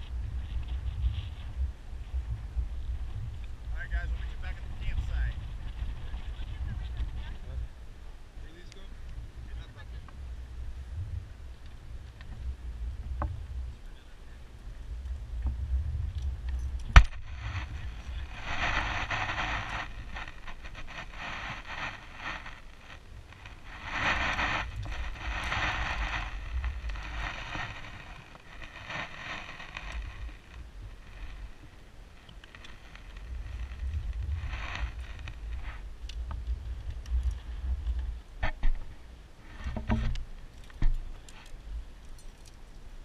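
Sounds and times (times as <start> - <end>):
fishing gear rustling and scraping: 0.0 - 7.6, 14.6 - 43.0
wind rumbling on microphone: 0.0 - 43.0.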